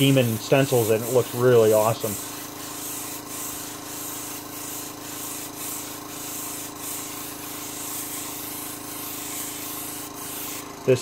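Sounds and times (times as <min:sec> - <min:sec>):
air compressor hum: 0:00.0 - 0:11.0
airbrush spraying hiss: 0:00.0 - 0:11.0.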